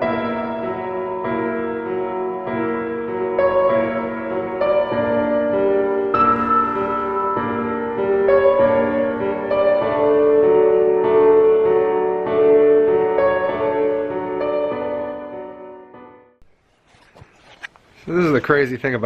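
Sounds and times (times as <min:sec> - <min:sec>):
slow piano music: 0:00.0 - 0:16.4.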